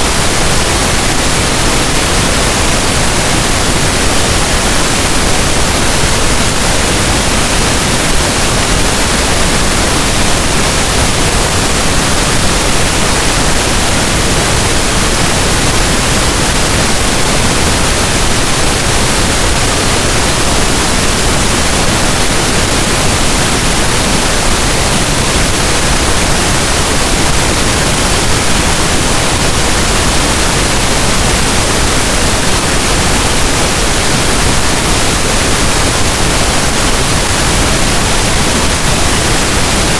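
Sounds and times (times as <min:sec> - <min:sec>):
loud pink noise hiss: 0:00.0 - 0:39.9.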